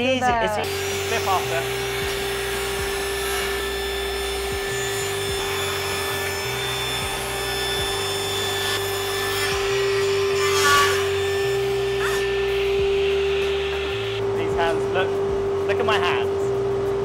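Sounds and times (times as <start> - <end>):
table saw cutting wood: 0.6 - 14.2.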